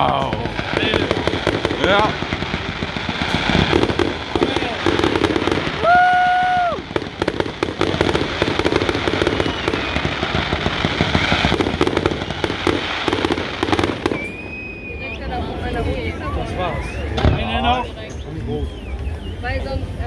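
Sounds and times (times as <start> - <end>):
firework whistling tone: 0.0 - 20.0
fireworks crackling and popping: 0.0 - 20.0.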